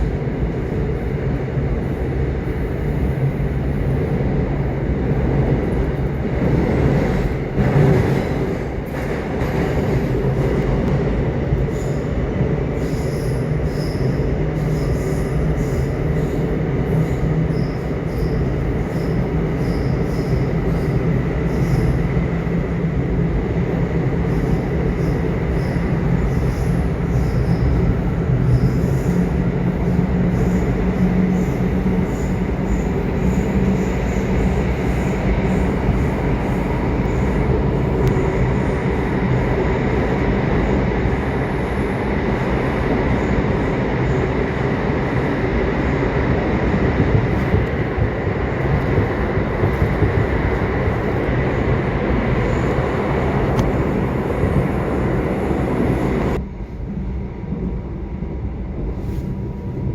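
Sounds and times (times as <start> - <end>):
subway train wheels rumbling: 0.0 - 59.9.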